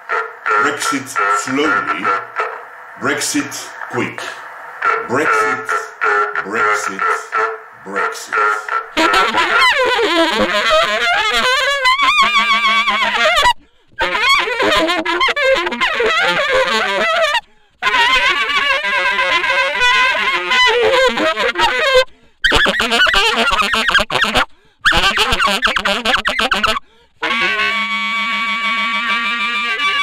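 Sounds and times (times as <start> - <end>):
honking wind instrument tones: 0.0 - 30.0.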